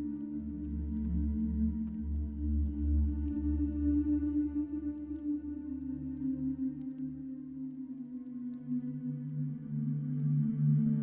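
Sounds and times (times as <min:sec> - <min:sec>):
ambient music of long held tones: 0:00.0 - 0:11.0.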